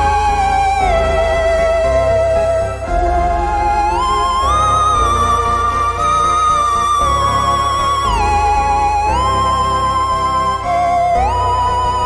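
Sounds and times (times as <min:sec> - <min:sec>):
held wavering melody note: 0:00.0 - 0:12.0
low pulsing bass: 0:00.0 - 0:12.0.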